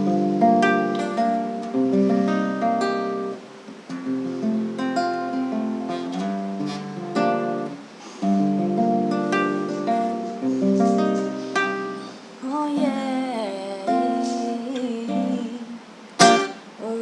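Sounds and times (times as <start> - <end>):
acoustic guitar: 0.0 - 17.0.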